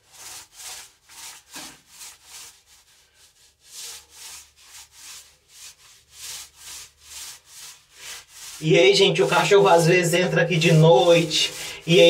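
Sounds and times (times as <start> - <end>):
paint roller swishing on wall: 0.0 - 12.0.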